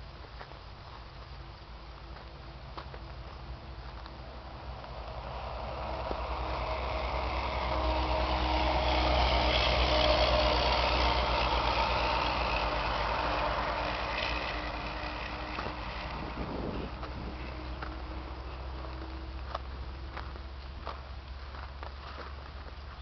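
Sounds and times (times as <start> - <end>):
passing vehicle engine: 2.5 - 23.0.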